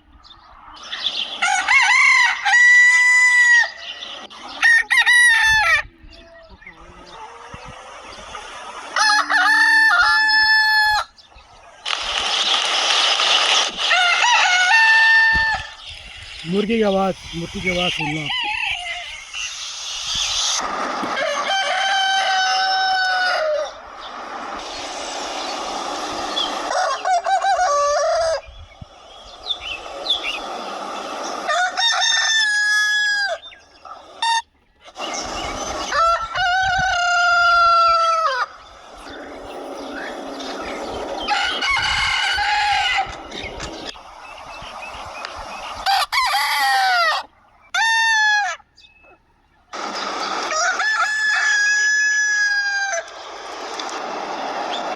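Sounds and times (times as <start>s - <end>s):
roosters crowing: 0.8s - 48.9s, 49.7s - 54.9s.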